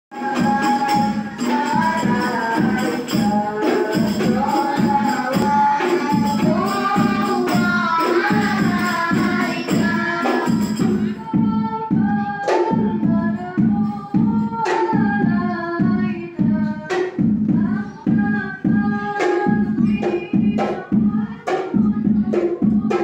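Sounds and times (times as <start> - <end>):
girls singing into microphones: 0.1 - 23.0
music with percussion beat: 0.1 - 23.0.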